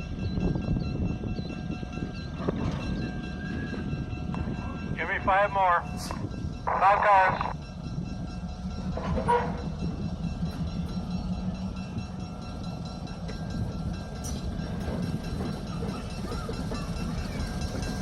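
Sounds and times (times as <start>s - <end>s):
train rumbling slowly: 0.0s - 18.0s.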